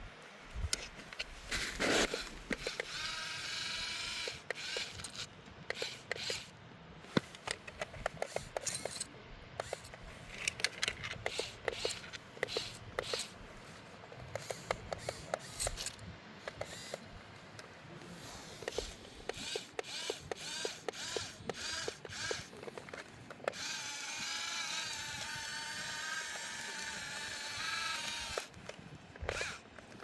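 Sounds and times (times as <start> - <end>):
model excavator clicks and scrapes: 0.6 - 13.4, 14.1 - 17.7, 18.6 - 30.0.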